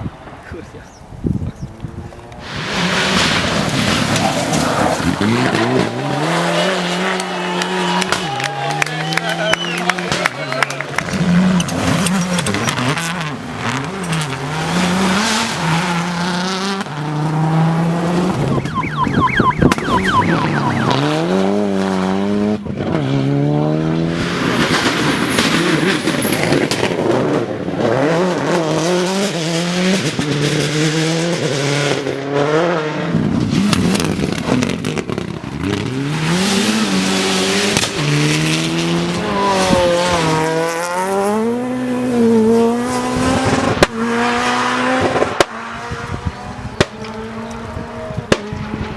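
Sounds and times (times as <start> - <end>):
cars rushing past: 0.0 - 48.9
rally car engines revving: 0.1 - 48.9.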